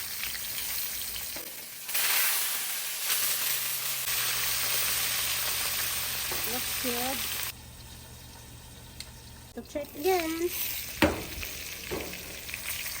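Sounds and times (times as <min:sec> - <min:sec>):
fish sizzling in frying pan: 0:00.0 - 0:08.5, 0:09.9 - 0:13.0.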